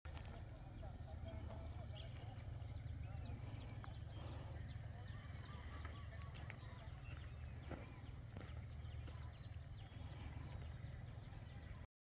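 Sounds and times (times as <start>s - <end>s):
birds chirping: 0.1s - 11.9s
low steady rumble: 0.1s - 11.9s.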